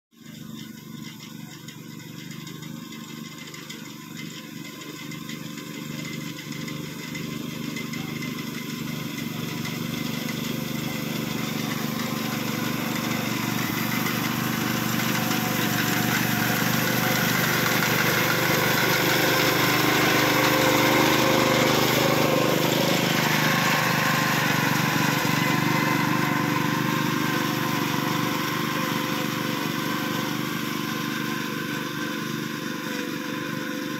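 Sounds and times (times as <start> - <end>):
small petrol engine running: 0.1 - 33.9.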